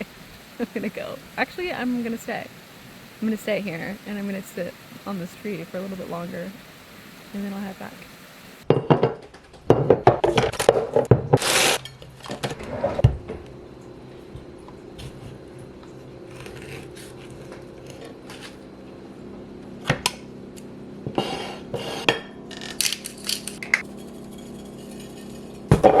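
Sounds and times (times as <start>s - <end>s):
steady low hum: 0.0s - 8.6s, 11.8s - 26.0s.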